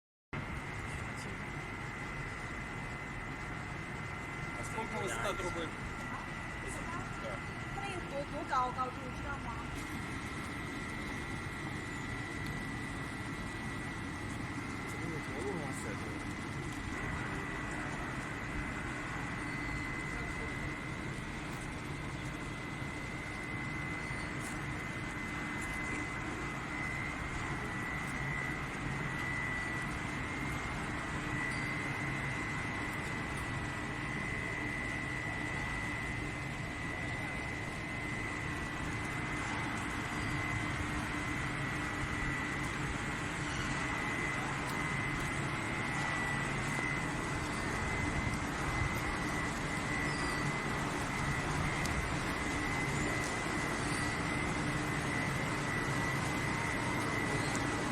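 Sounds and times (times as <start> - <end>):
boiler machinery roar: 0.4 - 57.9
constant high whine: 0.4 - 57.9.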